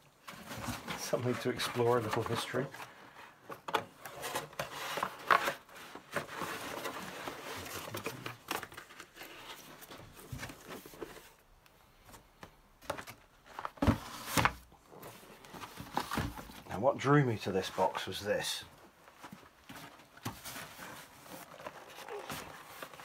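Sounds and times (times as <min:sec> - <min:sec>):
paper and cardboard rustling: 0:00.1 - 0:23.0.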